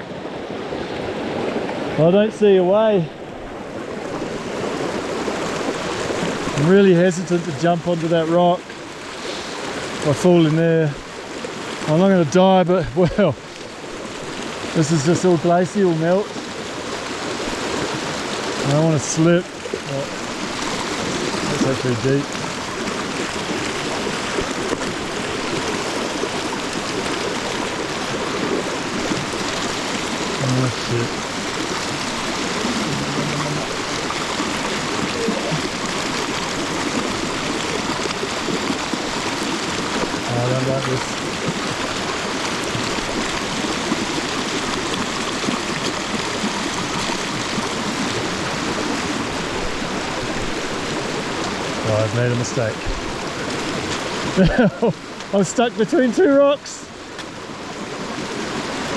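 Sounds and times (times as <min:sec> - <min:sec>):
river rushing among rocks: 0:00.0 - 0:58.9.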